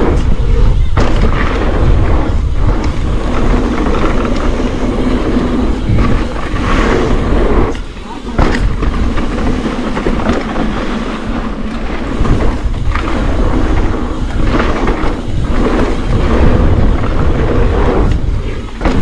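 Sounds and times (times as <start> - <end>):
tyres rumbling on dirt trail: 0.0 - 19.0
wind buffeting microphone: 0.0 - 19.0.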